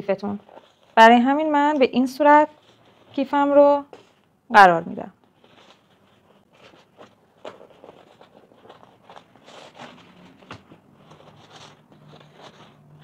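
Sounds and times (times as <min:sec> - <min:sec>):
fabric and leather rustling: 0:00.0 - 0:04.4, 0:05.1 - 0:13.0.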